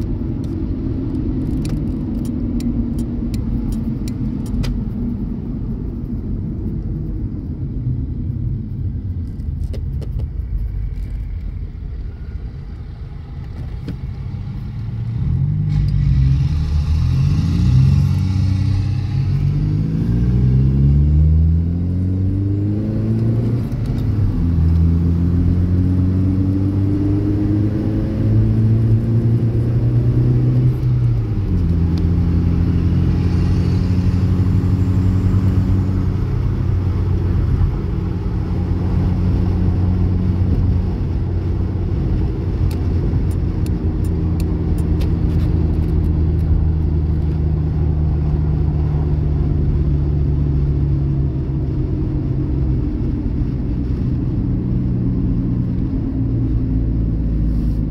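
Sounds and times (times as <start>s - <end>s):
car engine under throttle: 0.0s - 57.9s.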